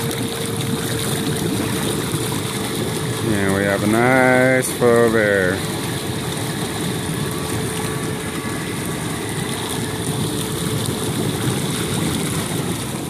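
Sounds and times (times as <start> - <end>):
air blower humming: 0.0 - 13.0
water churning and bubbling: 0.0 - 13.0.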